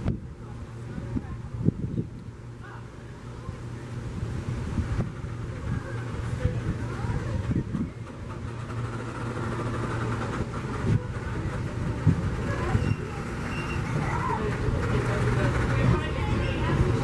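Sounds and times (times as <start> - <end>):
faint voices: 0.0 - 17.0
train running past: 0.0 - 17.0.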